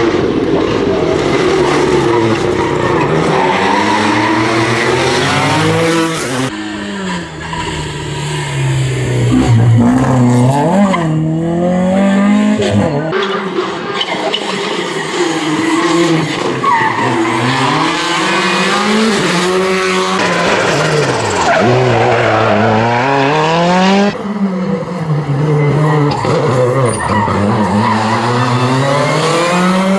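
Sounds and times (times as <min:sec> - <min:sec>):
rally car engines revving: 0:00.0 - 0:29.9.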